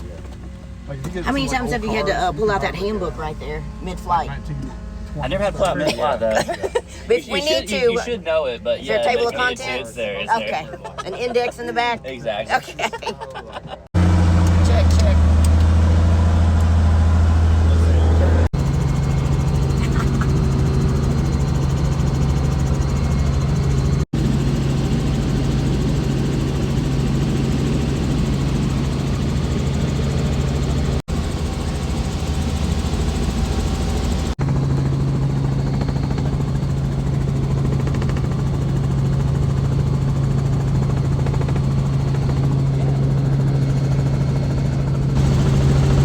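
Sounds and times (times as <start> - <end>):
helicopter engine and rotor drone: 0.0 - 46.0.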